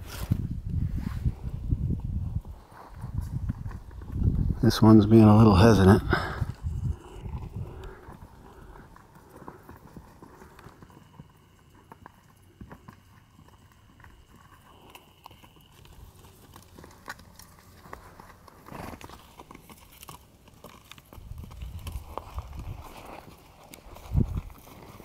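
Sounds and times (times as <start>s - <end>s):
horse hooves clopping: 1.4s - 25.0s.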